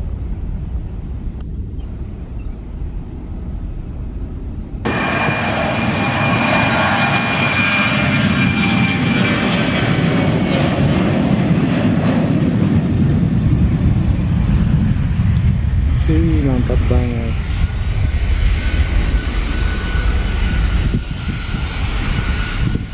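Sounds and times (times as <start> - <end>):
jet engines rumbling at takeoff: 0.0 - 22.9.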